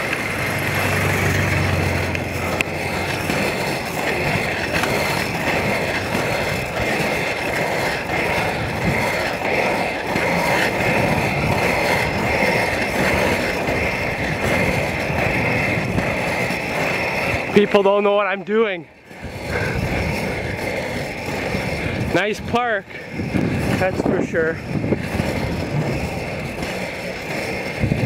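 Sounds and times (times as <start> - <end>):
skate wheels rolling on asphalt: 0.0 - 28.0.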